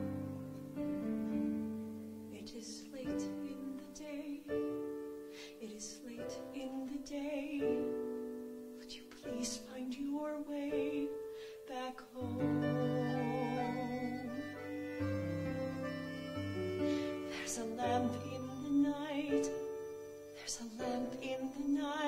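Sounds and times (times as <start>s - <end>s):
soft piano accompaniment: 0.0s - 22.0s
woman singing a ballad: 2.3s - 15.0s, 16.8s - 22.0s.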